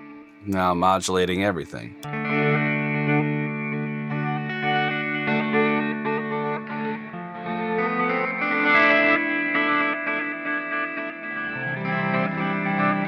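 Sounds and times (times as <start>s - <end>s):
electric guitar with reverb: 0.0s - 13.0s.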